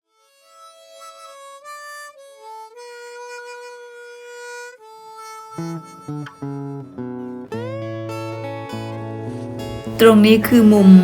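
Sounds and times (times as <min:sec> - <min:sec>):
harmonica slow melody: 0:00.1 - 0:11.0.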